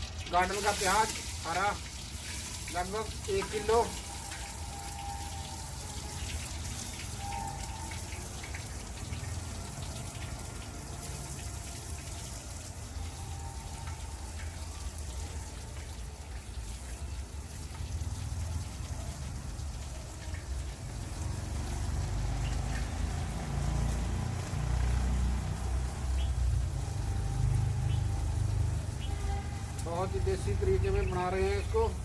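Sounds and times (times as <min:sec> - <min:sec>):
onions sizzling in hot ghee: 0:00.0 - 0:32.0.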